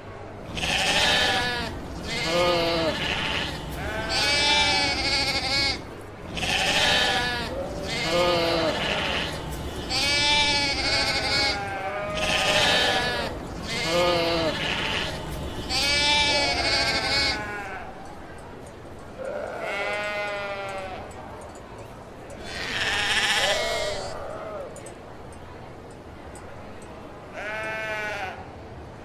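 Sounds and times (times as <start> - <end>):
sheep bleating: 0.5 - 18.1, 19.2 - 21.5, 22.3 - 24.9, 27.3 - 28.4.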